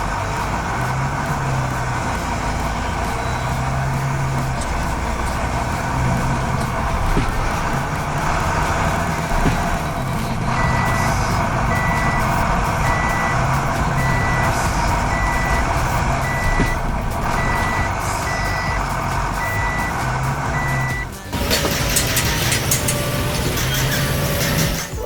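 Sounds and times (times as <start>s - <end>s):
truck engine running: 0.0s - 25.0s
truck reversing alarm beeping: 0.0s - 25.0s.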